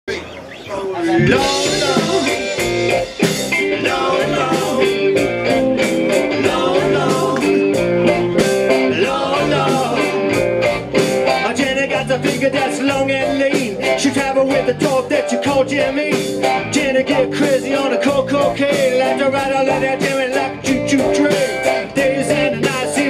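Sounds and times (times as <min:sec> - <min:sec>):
live band playing: 0:00.1 - 0:23.0
electric guitar: 0:01.1 - 0:23.0.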